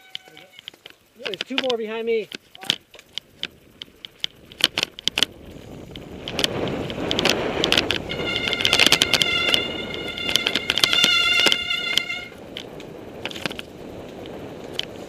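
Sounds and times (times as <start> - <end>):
high-pitched whine: 0.0 - 14.0
mountain bike rattling and clicking: 0.0 - 15.0
wind and tyre noise: 0.0 - 15.0.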